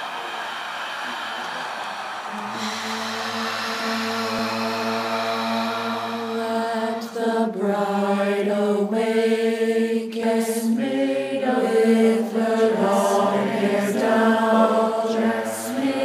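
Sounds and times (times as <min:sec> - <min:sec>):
voices singing slow chant: 0:00.0 - 0:16.0.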